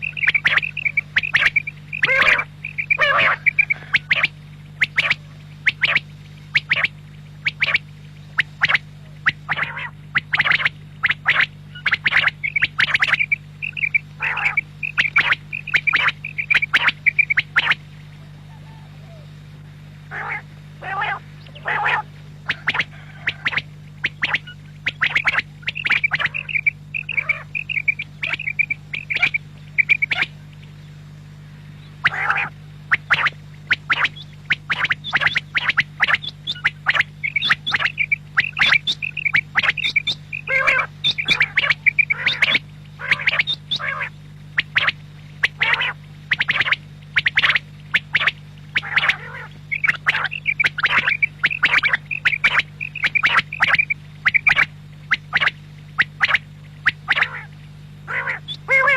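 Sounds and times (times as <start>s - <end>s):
quail calling: 0.0s - 31.1s, 31.7s - 58.9s
steady low hum: 0.0s - 58.9s.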